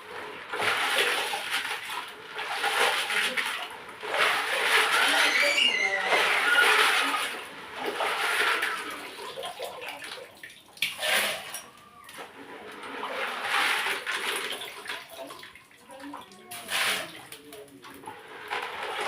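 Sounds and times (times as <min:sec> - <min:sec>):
water splashing and pouring: 0:00.0 - 0:19.0.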